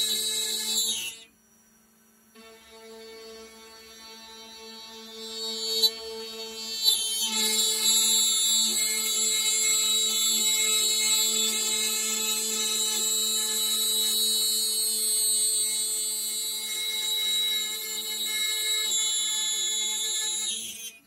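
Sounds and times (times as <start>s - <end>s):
router spindle high-pitched whine: 0.0s - 21.0s.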